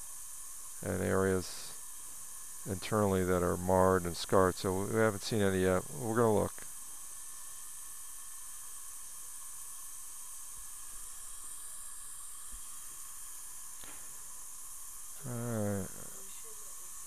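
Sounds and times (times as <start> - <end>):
faint steady tones: 0.0 - 17.0
high-pitched hiss: 0.0 - 17.0.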